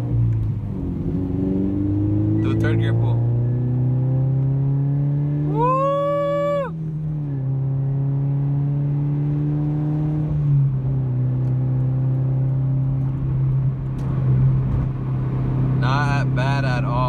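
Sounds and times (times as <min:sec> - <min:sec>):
car engine droning from cabin: 0:00.0 - 0:17.0.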